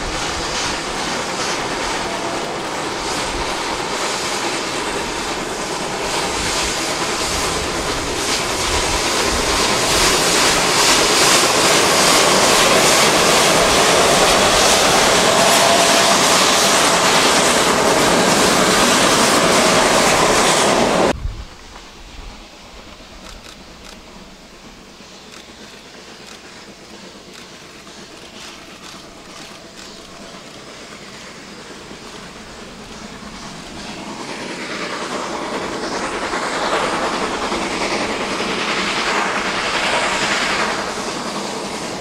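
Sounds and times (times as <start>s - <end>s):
steam locomotive exhaust: 0.0s - 42.0s.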